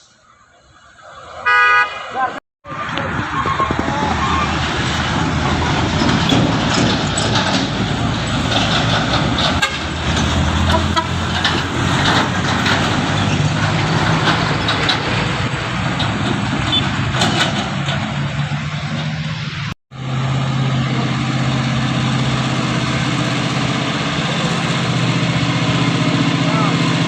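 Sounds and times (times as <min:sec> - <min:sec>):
road noise: 0:00.0 - 0:27.0
truck engine humming: 0:00.0 - 0:27.0.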